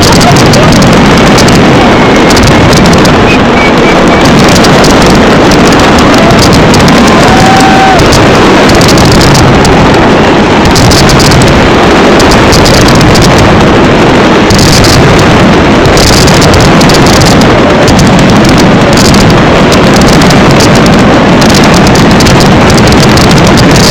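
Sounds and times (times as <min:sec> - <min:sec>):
distorted fireworks roar: 0:00.0 - 0:23.9.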